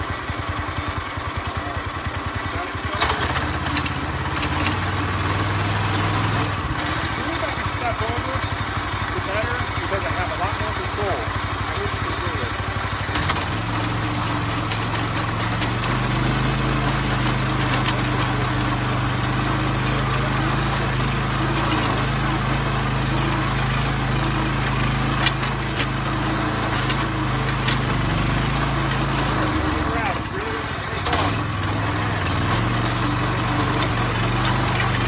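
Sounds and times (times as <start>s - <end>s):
earth drill engine running: 0.0s - 35.0s.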